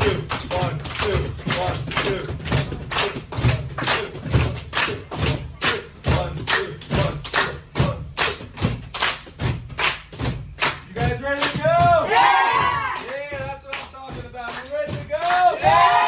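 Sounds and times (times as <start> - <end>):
people clapping in unison: 0.0 - 16.0.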